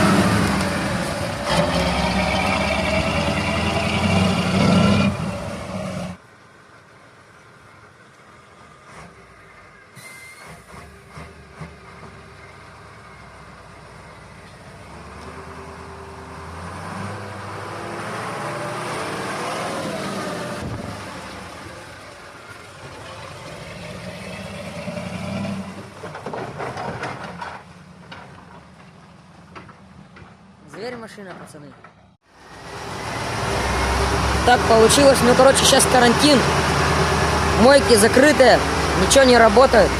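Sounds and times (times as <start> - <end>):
diesel truck engine under load: 0.0 - 6.2, 7.4 - 39.9.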